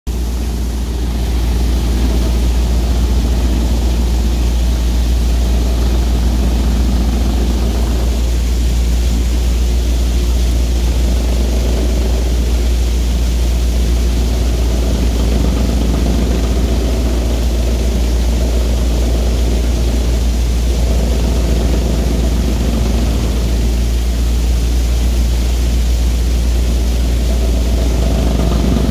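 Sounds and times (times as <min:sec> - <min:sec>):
thresher droning: 0:00.1 - 0:28.9.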